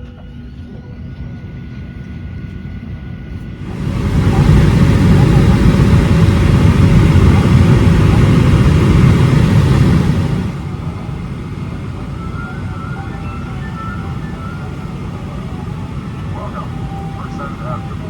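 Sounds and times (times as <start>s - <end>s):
jet airliner rumble: 0.0s - 18.0s.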